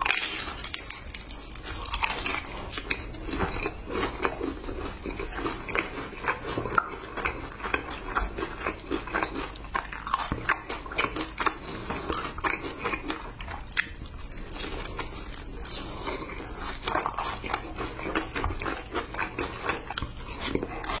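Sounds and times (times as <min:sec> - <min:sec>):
biting and chewing fried chicken: 0:00.0 - 0:21.0.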